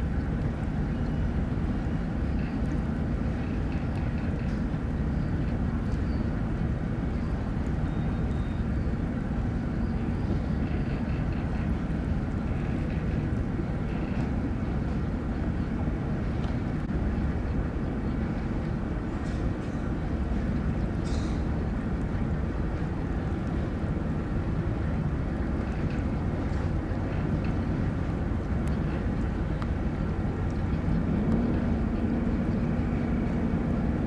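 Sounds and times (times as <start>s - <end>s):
boat engine rumbling: 0.0s - 34.0s.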